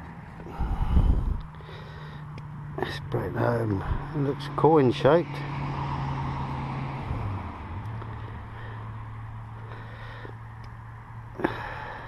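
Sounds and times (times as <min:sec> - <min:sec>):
motorway traffic noise: 0:00.0 - 0:12.0
vehicle engine hum: 0:00.0 - 0:12.0.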